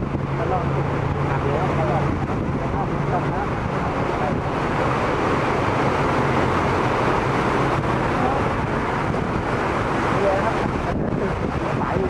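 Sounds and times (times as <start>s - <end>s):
car engines running: 0.0s - 12.0s
tyres pushing through water: 0.0s - 12.0s.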